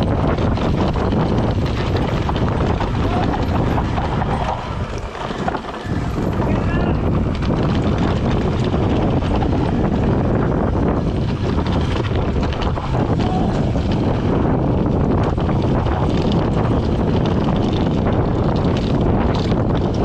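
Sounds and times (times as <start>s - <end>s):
bike knocks and rattles: 0.0s - 20.0s
tyre rumble on dirt: 0.0s - 20.0s
wind rushing over microphone: 0.0s - 20.0s.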